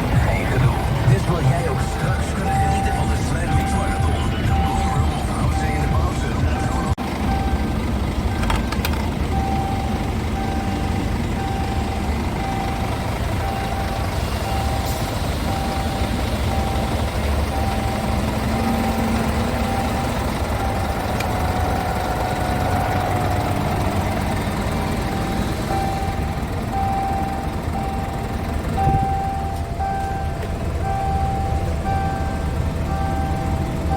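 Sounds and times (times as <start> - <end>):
diesel engine running: 0.0 - 33.9
truck reverse alarm beeping: 0.0 - 33.9.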